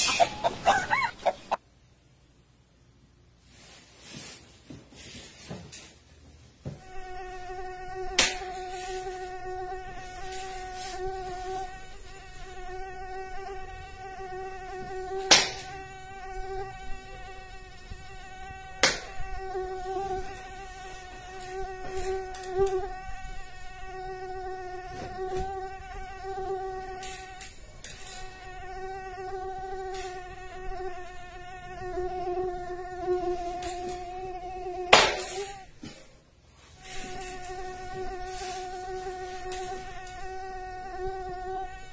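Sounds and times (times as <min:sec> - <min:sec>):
mosquito whining: 0:06.8 - 0:35.8, 0:36.8 - 0:41.9.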